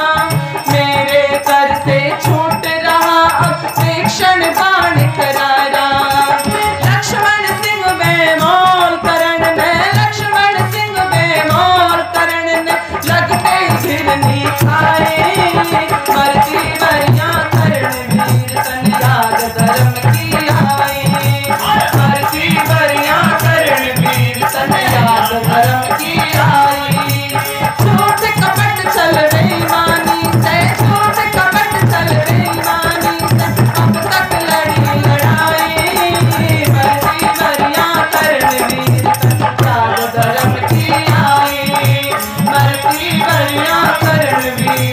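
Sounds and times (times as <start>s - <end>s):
hand drum rhythm: 0.0s - 44.9s
harmonium: 0.0s - 44.9s
rattling percussion: 0.0s - 44.9s
woman singing devotional song: 0.0s - 44.9s.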